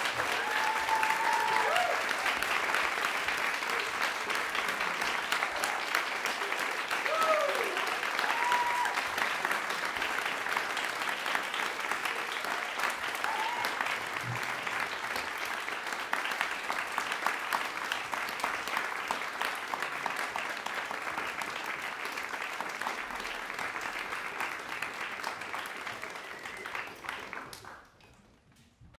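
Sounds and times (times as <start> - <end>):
audience applauding: 0.0 - 28.4.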